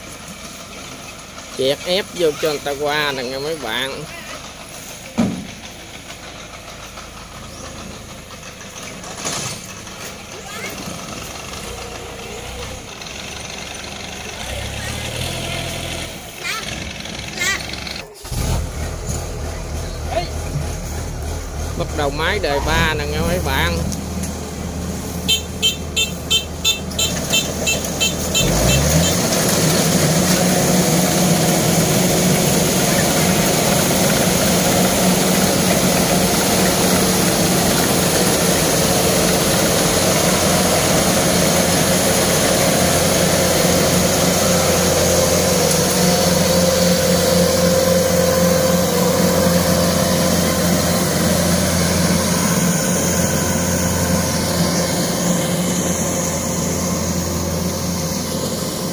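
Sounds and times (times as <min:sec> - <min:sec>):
harvester diesel engine: 0:00.0 - 0:58.9.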